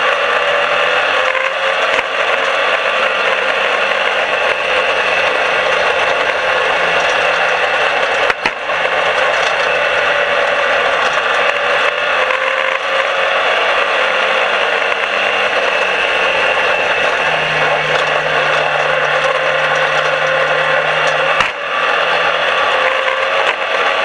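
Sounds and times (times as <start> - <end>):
race car engine running hard: 0.0 - 24.0
road and body rattle: 0.5 - 24.0.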